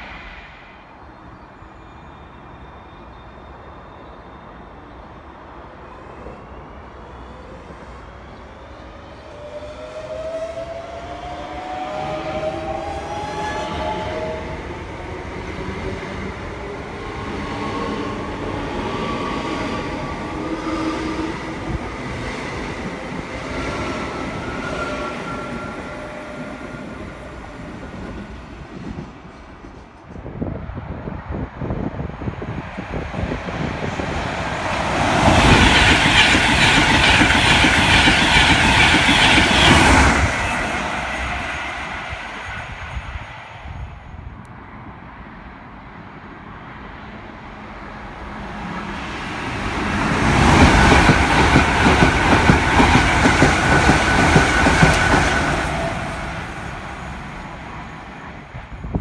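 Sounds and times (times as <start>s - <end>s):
train wheels rumbling on track: 9.1s - 44.9s, 47.2s - 59.0s.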